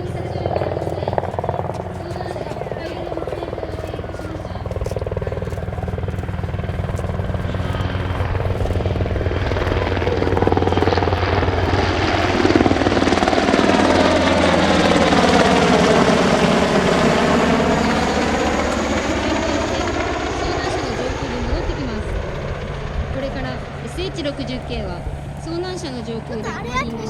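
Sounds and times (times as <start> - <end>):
helicopter rotors and engines: 0.0 - 27.0.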